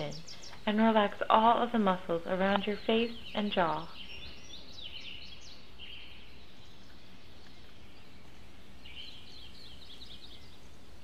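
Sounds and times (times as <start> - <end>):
low background hum: 0.0 - 11.0
songbird chirping: 0.0 - 11.0.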